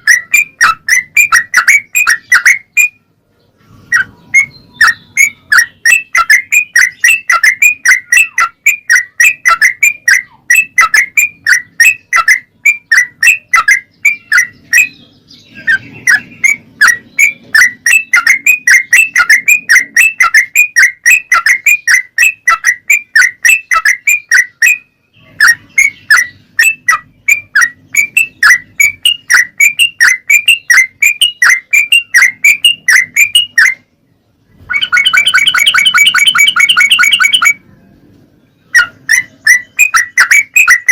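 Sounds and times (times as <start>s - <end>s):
bird chirping rapidly: 0.0s - 37.7s, 38.5s - 40.9s
bird song: 0.0s - 40.9s.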